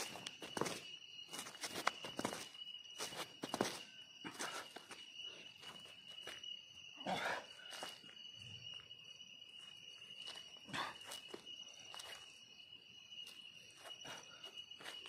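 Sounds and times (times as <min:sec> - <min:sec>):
insect trilling: 0:00.0 - 0:15.0.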